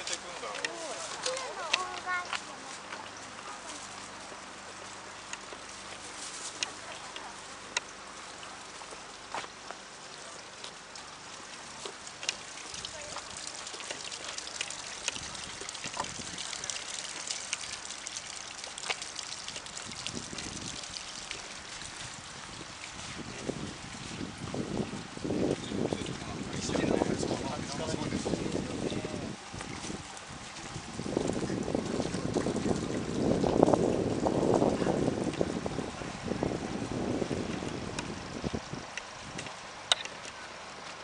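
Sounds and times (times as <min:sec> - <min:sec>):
falling water hissing and ticking: 0:00.0 - 0:41.0.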